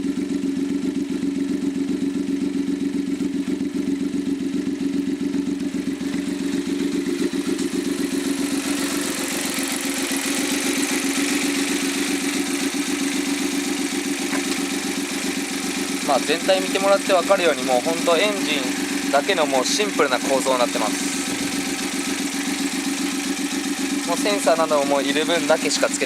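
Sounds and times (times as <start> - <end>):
engine running with even pulse: 0.0 - 26.0.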